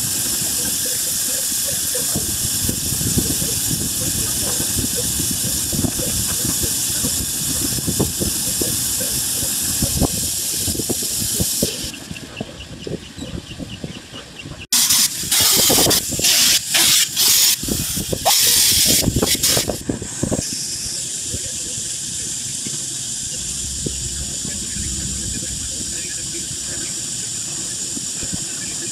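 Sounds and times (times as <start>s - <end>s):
grinding wheel hissing under coolant: 0.0s - 12.0s, 14.7s - 28.9s
loud hissing blasts: 0.0s - 12.0s, 14.8s - 28.9s.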